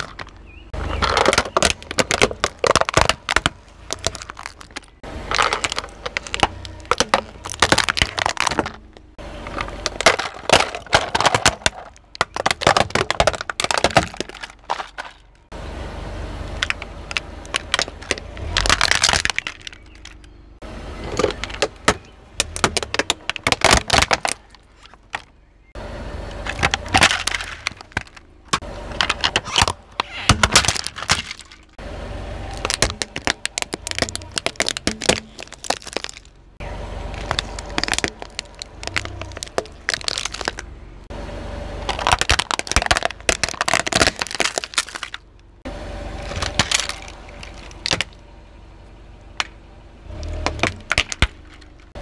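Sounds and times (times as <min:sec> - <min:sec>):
plastic toys cracking under tyre: 0:00.0 - 0:15.5, 0:16.5 - 0:20.4, 0:21.0 - 0:25.4, 0:26.3 - 0:31.8, 0:32.4 - 0:36.4, 0:37.1 - 0:40.7, 0:41.8 - 0:45.5, 0:46.2 - 0:48.2, 0:49.4 - 0:52.0.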